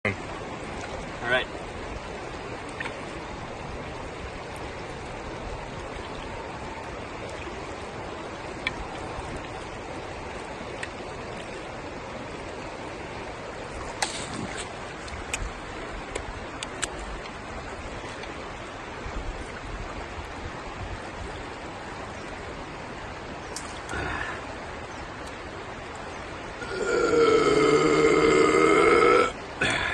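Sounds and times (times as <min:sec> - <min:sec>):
stream water flowing: 0:00.0 - 0:29.9.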